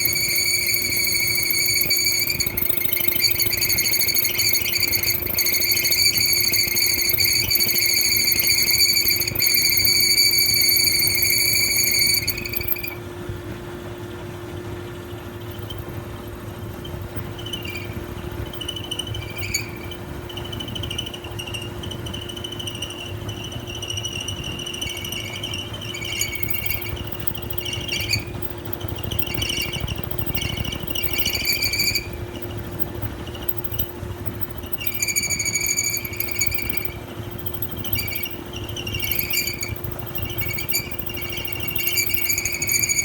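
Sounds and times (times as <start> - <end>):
high-pitched squeaking: 0.0 - 13.1, 14.9 - 43.0
washer-dryer humming: 0.0 - 43.0.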